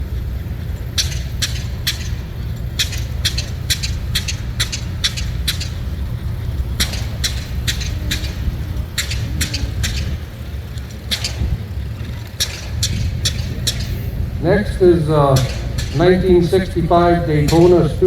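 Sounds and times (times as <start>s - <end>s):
sharp ticks: 0.0s - 18.0s
vehicle engine rumbling: 0.0s - 18.0s.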